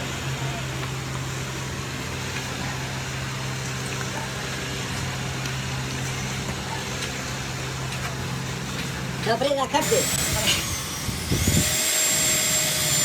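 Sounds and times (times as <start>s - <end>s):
low machine drone: 0.0s - 13.0s
noisy hiss: 0.0s - 13.0s.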